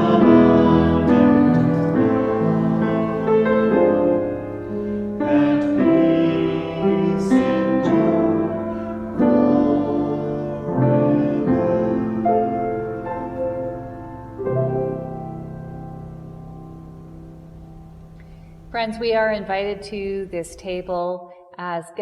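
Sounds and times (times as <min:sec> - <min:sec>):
piano playing slow chords: 0:00.0 - 0:19.4.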